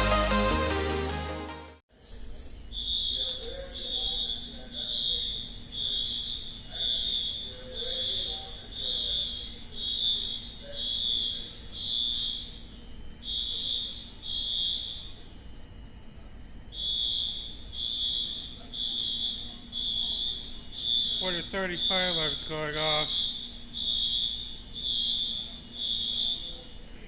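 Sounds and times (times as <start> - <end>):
fire alarm beeping: 2.7 - 27.0.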